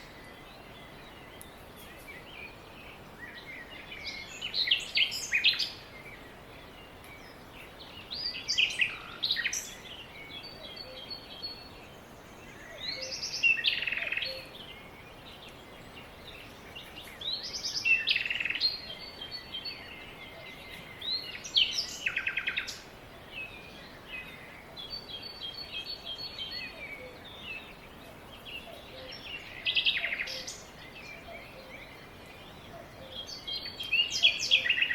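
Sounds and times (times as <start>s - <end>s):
faint steady hiss: 0.0s - 34.9s
songbird chirps and trills: 0.0s - 34.9s.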